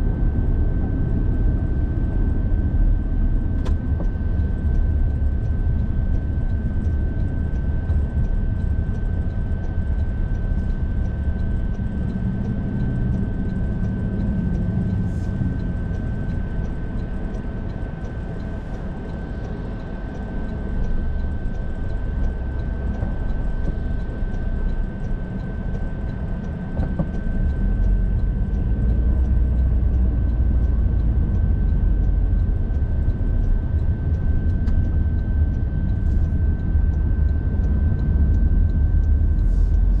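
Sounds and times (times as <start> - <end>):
high-pitched whine: 0.0 - 40.0
car tyres and engine rumble: 0.1 - 40.0.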